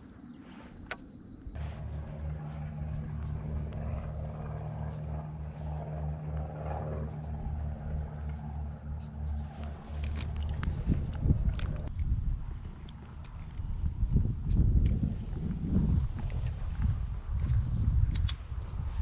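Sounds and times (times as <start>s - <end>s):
motor droning with pulsing: 0.8s - 17.4s.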